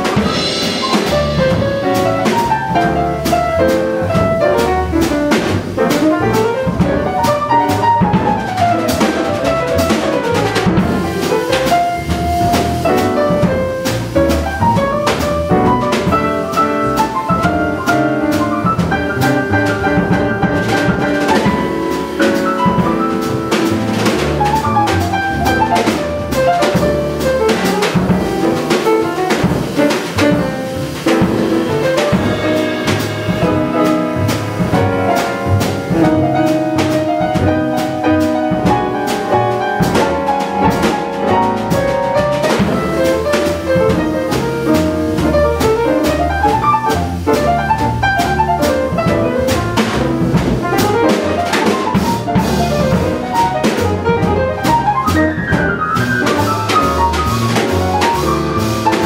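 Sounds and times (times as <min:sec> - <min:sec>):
drum kit: 0:00.0 - 0:59.0
grand piano: 0:00.0 - 0:59.0
upright bass: 0:00.0 - 0:59.0.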